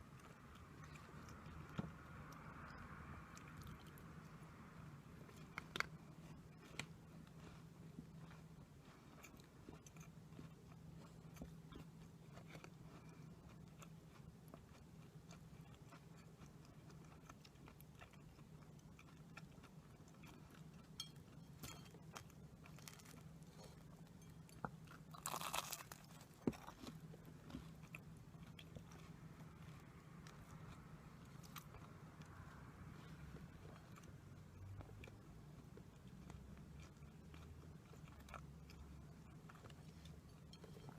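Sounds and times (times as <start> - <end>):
chewing sweets: 0.0 - 40.9.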